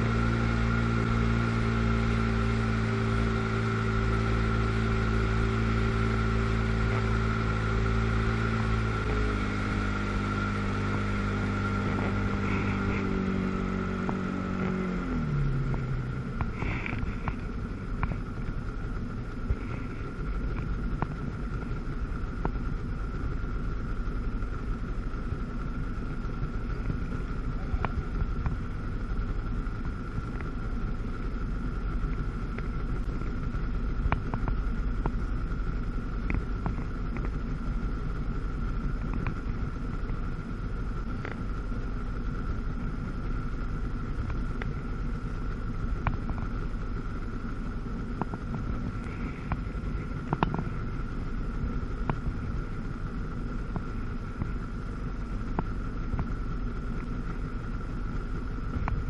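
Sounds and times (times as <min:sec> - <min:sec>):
water rumble: 0:00.0 - 0:59.0
watercraft engine running: 0:00.0 - 0:59.0
wind: 0:00.0 - 0:59.0.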